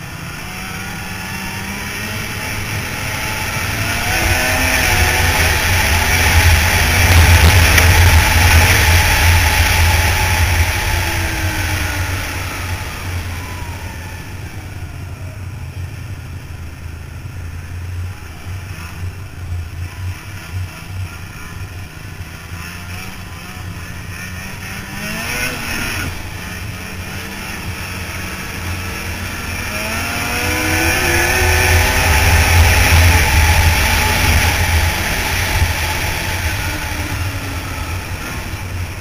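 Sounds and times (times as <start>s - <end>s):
snowmobile engine revving: 0.0s - 39.0s.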